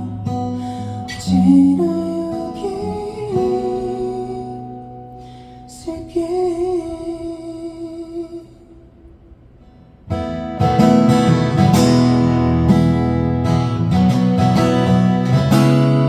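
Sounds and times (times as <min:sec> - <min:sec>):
acoustic guitar strumming: 0:00.0 - 0:08.6, 0:09.5 - 0:16.0.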